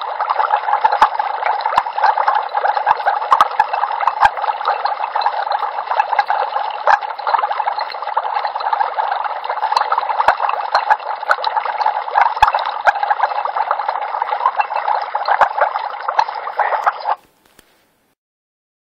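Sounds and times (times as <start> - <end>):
liquid bubbling and gurgling: 0.0 - 17.2.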